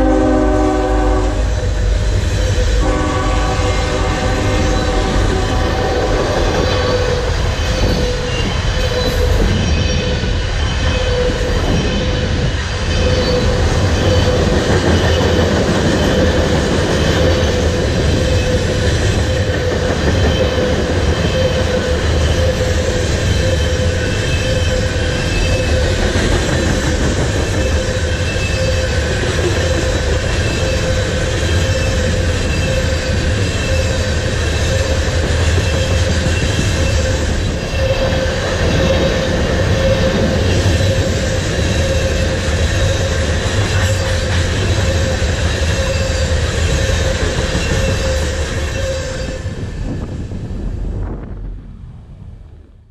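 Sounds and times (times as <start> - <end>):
train wheels rumbling on rail: 0.0 - 52.9
wheel squeal: 6.4 - 49.7.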